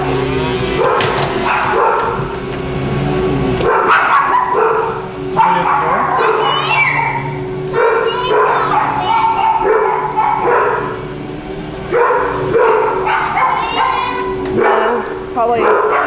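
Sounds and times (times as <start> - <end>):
vacuum cleaner running: 0.0 - 16.0
dog barking: 0.8 - 2.3, 3.6 - 11.0, 11.9 - 16.0.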